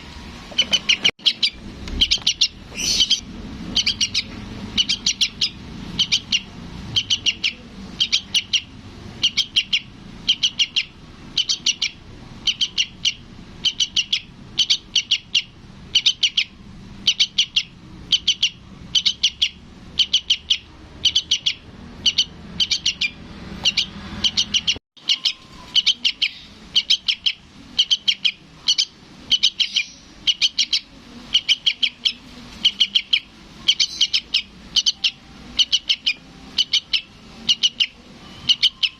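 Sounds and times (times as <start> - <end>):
fledgling bird chirping: 0.0 - 38.9.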